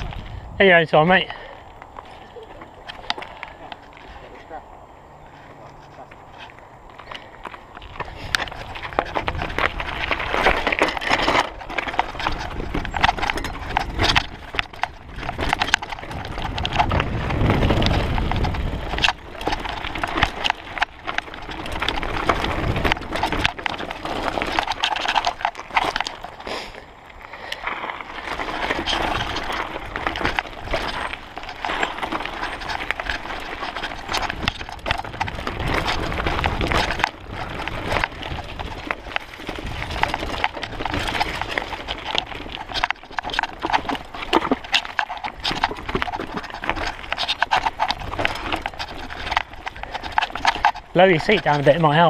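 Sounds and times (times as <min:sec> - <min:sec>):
bike rattling over stones: 0:00.0 - 0:52.0.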